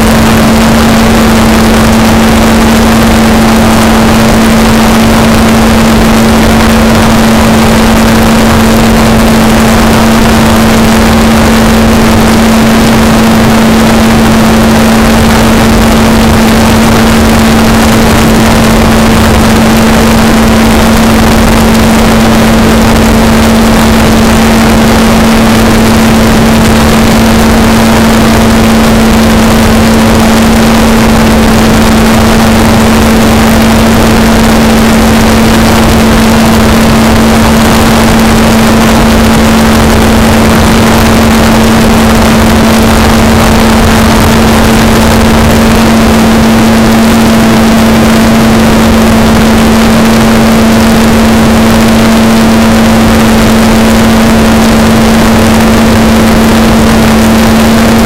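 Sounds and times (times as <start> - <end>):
helicopter motor and rotor hum: 0.0 - 58.0
wind rushing over microphone: 0.0 - 58.0.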